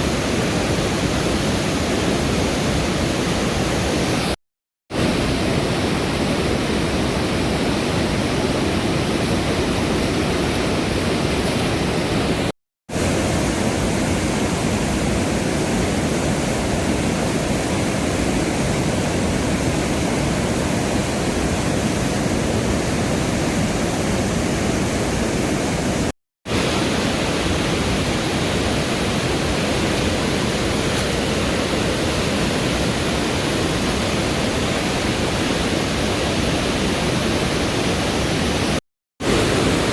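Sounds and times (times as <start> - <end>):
fast river rushing: 0.0 - 39.9.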